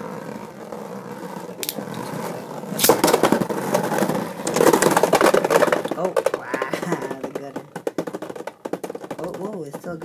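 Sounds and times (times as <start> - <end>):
spinning tops whirring: 0.0 - 10.0.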